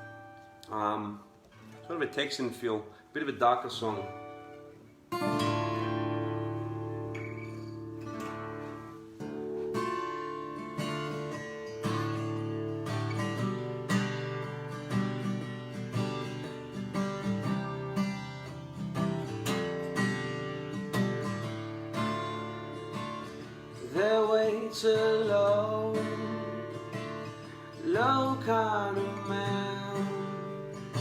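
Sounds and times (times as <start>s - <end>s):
guitar playing chords and picked notes: 0.0s - 31.0s.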